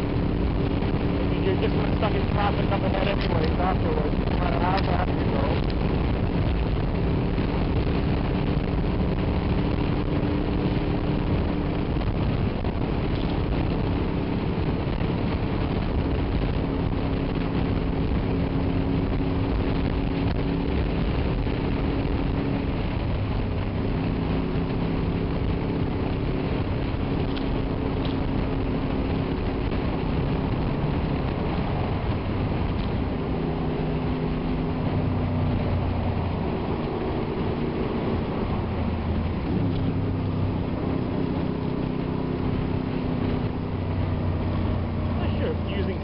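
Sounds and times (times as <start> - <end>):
motorcycle engine cruising: 0.0 - 46.0
wind and road noise: 0.0 - 46.0.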